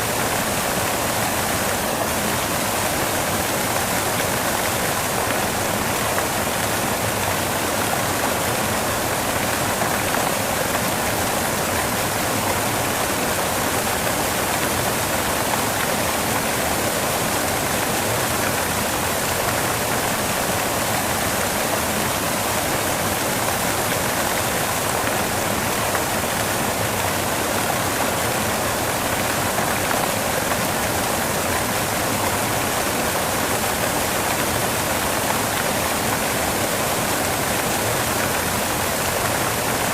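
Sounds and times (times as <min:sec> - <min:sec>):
steady white noise: 0:00.0 - 0:39.9.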